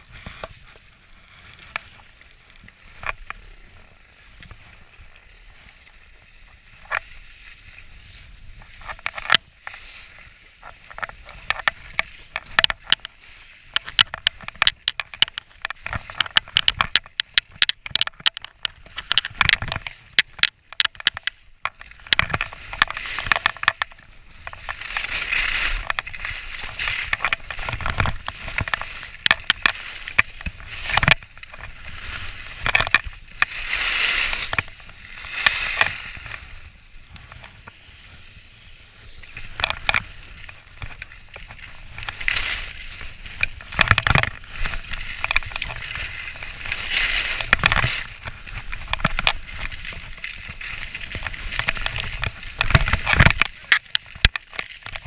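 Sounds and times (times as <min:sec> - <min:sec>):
skis scraping on snow: 0:00.0 - 0:17.8, 0:18.5 - 0:55.0.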